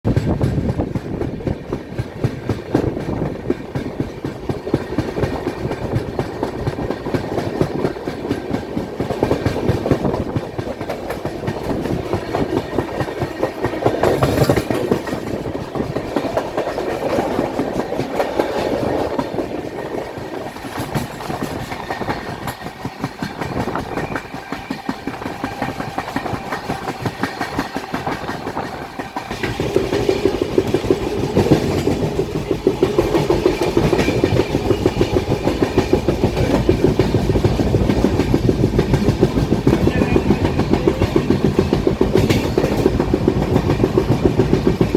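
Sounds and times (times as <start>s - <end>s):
train wheels clattering: 0.1s - 44.9s.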